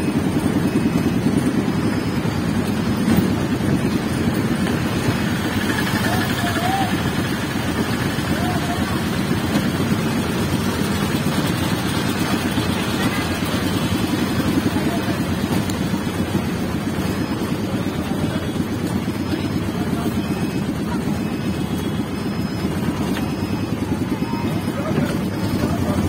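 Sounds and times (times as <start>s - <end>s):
road noise: 0.0s - 26.0s
small vehicle engine running: 0.0s - 26.0s.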